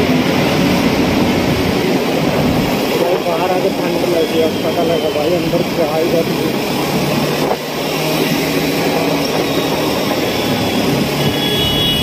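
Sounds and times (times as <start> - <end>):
motorcycle engine drone: 0.0 - 12.0
wind rush on microphone: 0.0 - 12.0.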